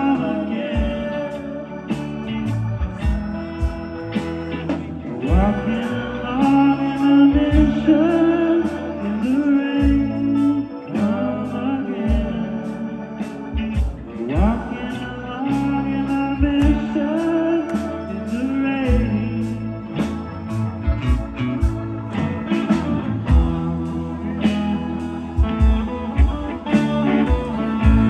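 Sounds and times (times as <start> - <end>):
drums: 0.0 - 28.0
electric bass: 0.0 - 28.0
electric guitars: 0.0 - 28.0
keyboards: 0.0 - 28.0
person singing: 0.0 - 28.0.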